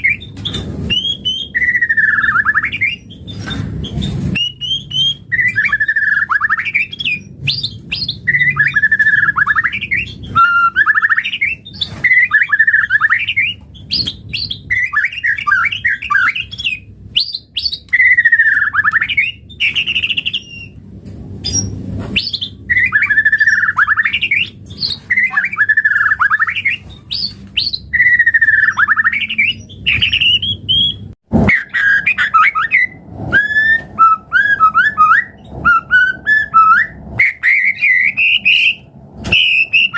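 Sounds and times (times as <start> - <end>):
bird singing warbling phrase: 4.4 - 20.8, 21.4 - 39.9.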